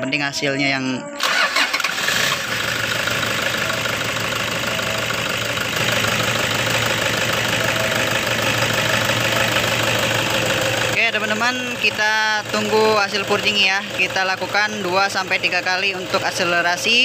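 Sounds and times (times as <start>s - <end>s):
diesel engine idling: 0.5s - 17.0s.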